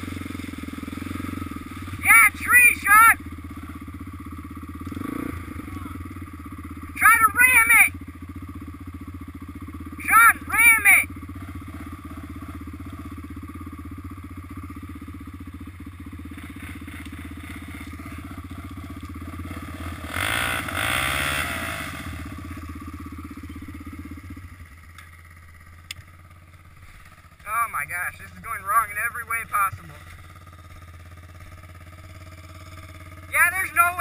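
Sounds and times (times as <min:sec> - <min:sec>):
quad engine revving: 0:00.0 - 0:08.0, 0:09.7 - 0:13.7, 0:16.1 - 0:24.4, 0:26.6 - 0:34.0
quad engine idling: 0:00.0 - 0:34.0.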